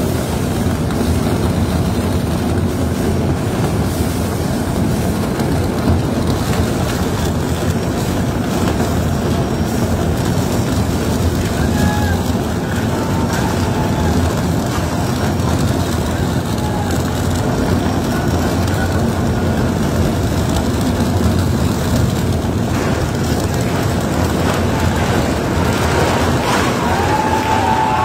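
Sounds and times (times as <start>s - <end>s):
tunnel boring machine grinding rock: 0.0s - 28.0s.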